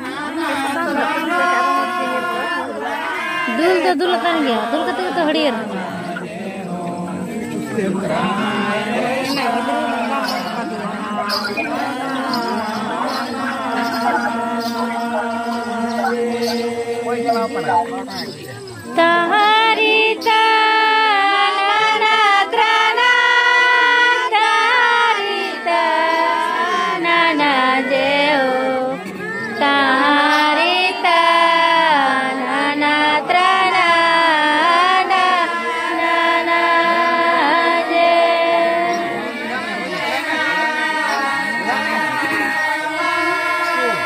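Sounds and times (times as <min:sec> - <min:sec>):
group of voices singing: 0:00.0 - 0:44.0.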